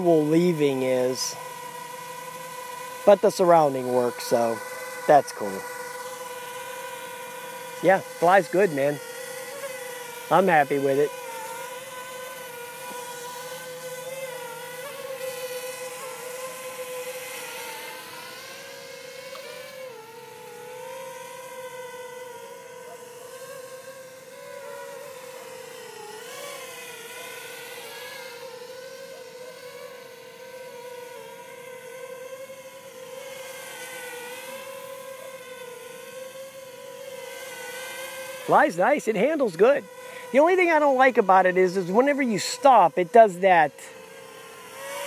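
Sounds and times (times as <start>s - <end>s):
drone propellers buzzing: 0.0s - 45.0s.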